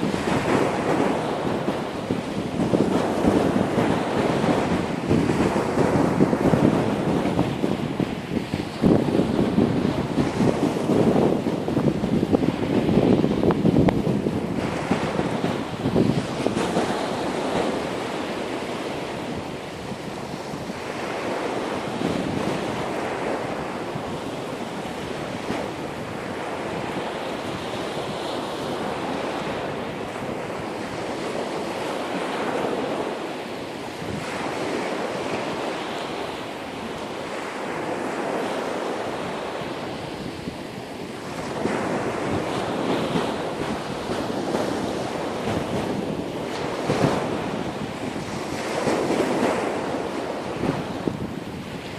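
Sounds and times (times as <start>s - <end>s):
ocean surf washing onto beach: 0.0s - 51.9s
wind buffeting microphone: 0.0s - 51.9s.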